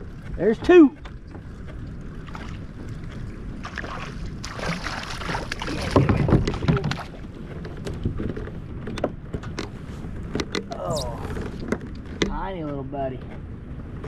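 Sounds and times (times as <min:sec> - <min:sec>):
water splashing against kayak: 0:00.0 - 0:14.0.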